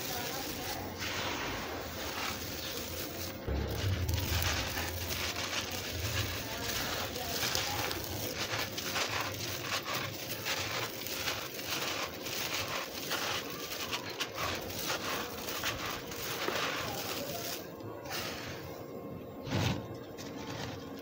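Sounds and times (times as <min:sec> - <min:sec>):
hands crumbling gritty stone: 0:00.0 - 0:17.7.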